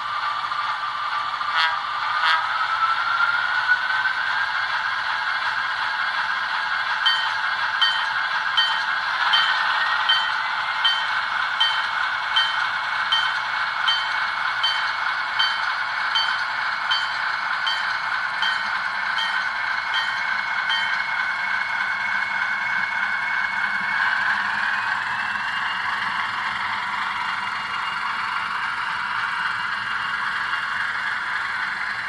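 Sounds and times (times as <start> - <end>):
model train motor whine: 0.0 - 32.0.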